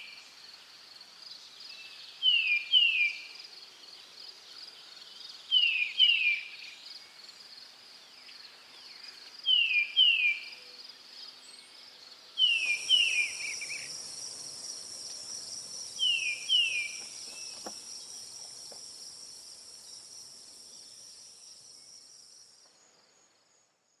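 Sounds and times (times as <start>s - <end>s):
crickets chorus: 0.0s - 24.0s.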